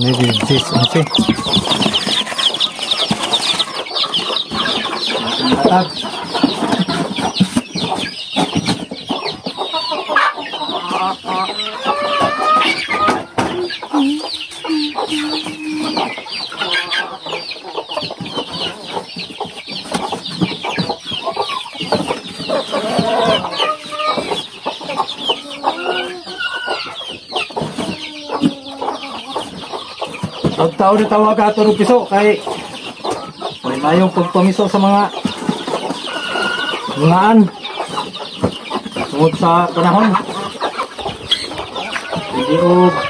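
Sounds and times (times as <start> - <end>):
chickens clucking: 0.0 - 43.0
chicks peeping: 0.0 - 43.0.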